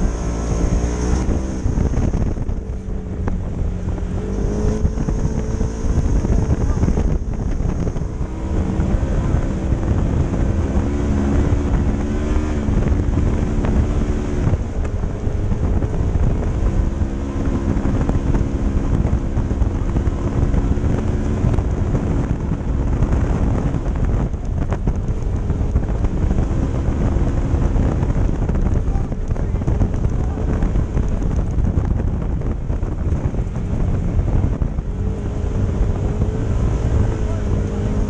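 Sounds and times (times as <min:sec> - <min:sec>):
off-road vehicle engine revving: 0:00.0 - 0:38.0
wind on microphone: 0:00.0 - 0:38.0.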